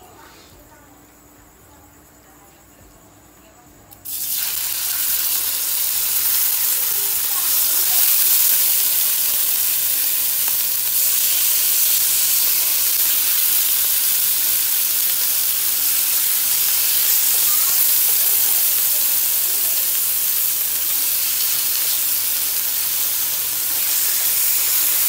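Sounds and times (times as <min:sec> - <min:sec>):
steaks sizzling in a grill pan: 0:04.0 - 0:25.0.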